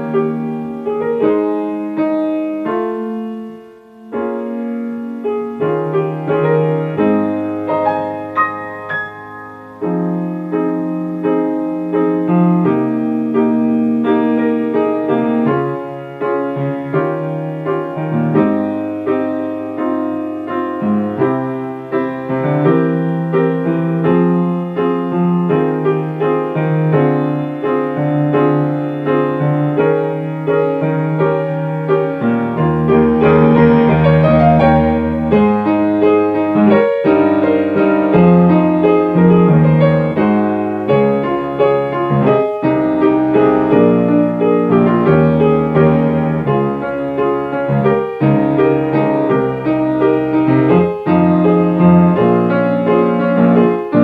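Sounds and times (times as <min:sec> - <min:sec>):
solo piano chords: 0:00.0 - 0:54.0.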